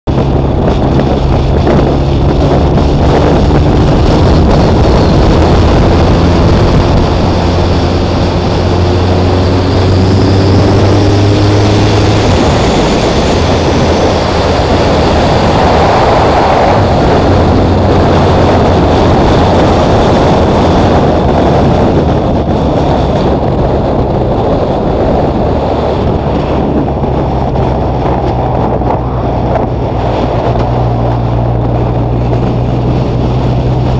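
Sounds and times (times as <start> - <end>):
road noise: 0.0 - 33.9
wind noise: 0.0 - 33.9
motorcycle engine running: 0.1 - 33.9.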